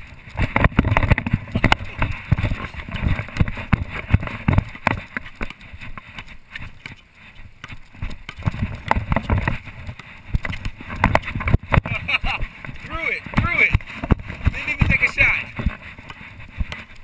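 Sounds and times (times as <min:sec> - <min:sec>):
sneaker footsteps and scuffs: 0:00.0 - 0:17.0
basketball bouncing on hard court: 0:00.3 - 0:17.0.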